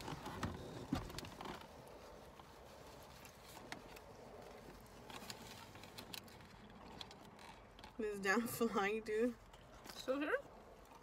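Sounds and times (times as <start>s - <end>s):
small clicks and rustles: 0.0s - 11.0s.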